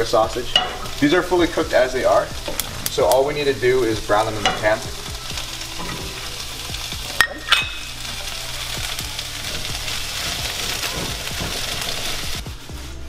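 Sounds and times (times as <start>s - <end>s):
sausages sizzling in a frying pan: 0.0s - 13.0s.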